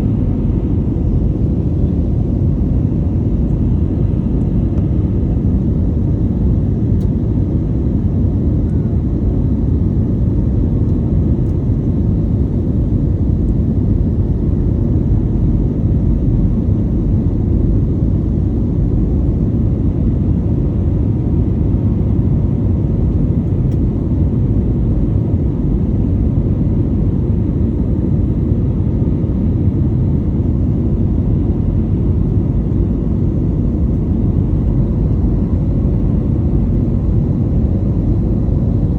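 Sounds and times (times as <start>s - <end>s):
aircraft engine rumble: 0.0s - 38.9s.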